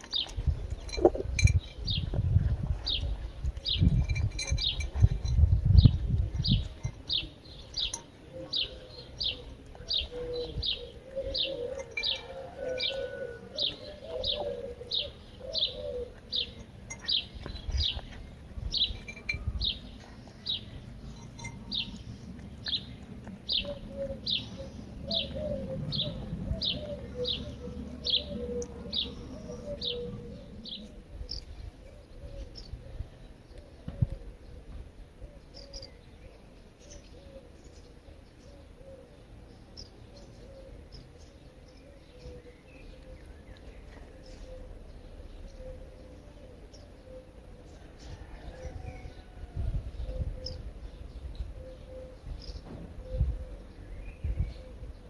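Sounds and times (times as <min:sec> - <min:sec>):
bird chirping: 0:02.9 - 0:32.8, 0:35.2 - 0:55.0.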